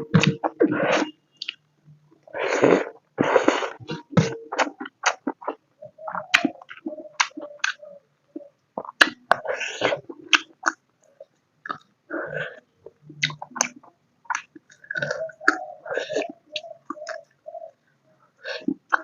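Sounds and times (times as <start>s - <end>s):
wet chewing: 0.2s - 1.6s, 2.6s - 17.3s.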